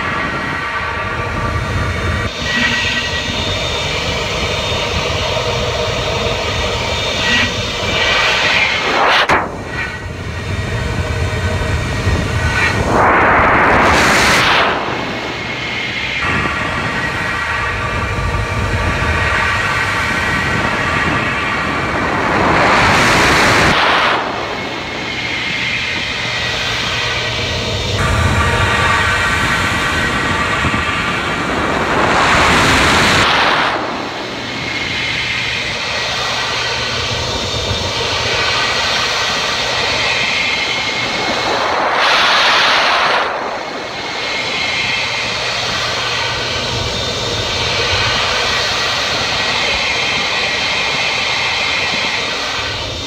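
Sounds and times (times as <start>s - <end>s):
machine whirring: 0.0s - 53.0s
rushing air blasts: 0.0s - 53.0s.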